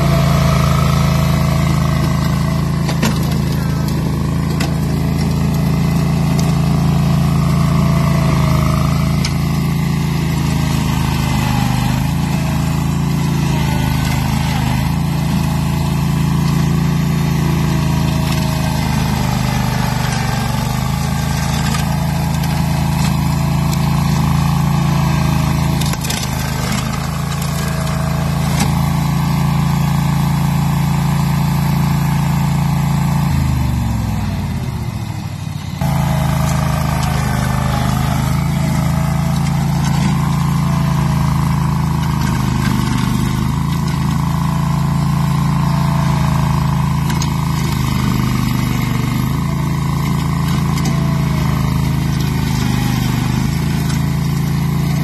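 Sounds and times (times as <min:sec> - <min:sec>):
ride-on mower running: 0:00.0 - 0:55.0.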